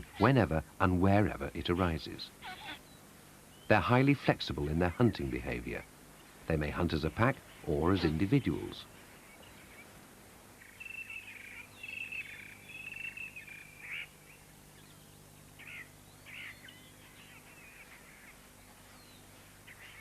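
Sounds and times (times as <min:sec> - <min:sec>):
birds chirping: 0:00.0 - 0:20.0
faint steady hum: 0:00.0 - 0:20.0.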